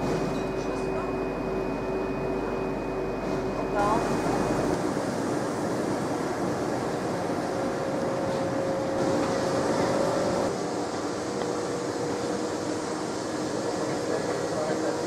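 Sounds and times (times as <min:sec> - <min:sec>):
faint steady whine: 0:00.0 - 0:15.0
train rumble and hiss: 0:00.0 - 0:15.0.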